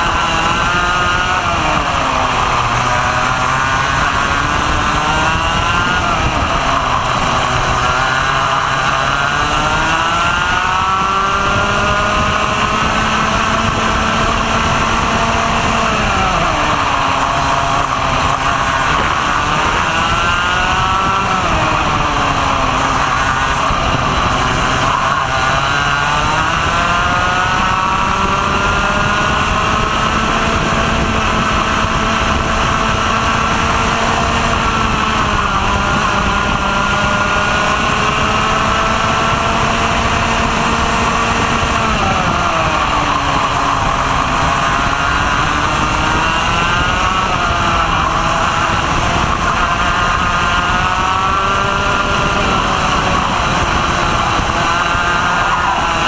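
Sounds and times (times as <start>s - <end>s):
kart engine racing: 0.0s - 56.0s
wind rushing: 0.0s - 56.0s.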